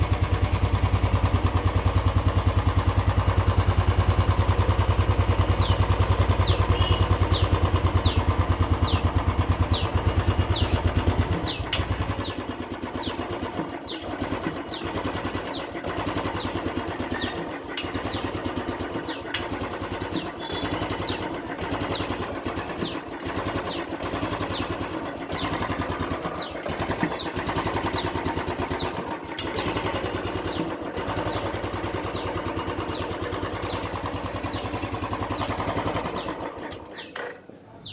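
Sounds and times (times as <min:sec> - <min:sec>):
motorcycle engine idling unevenly: 0:00.0 - 0:37.9.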